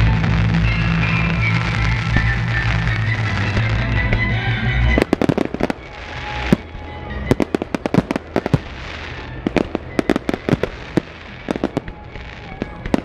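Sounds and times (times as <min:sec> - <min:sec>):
fireworks bangs and crackles: 0:00.0 - 0:13.0
loud music: 0:00.0 - 0:13.0.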